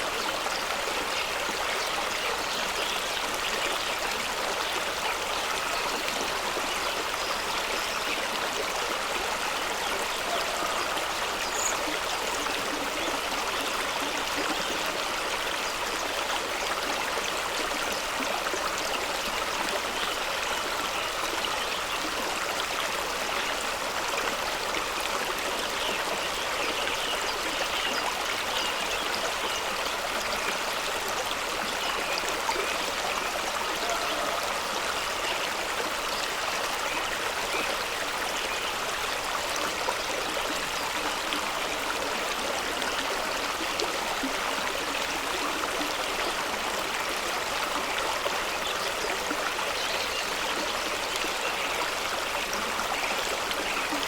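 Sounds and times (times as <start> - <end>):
stream splashing over rocks: 0.0 - 54.0.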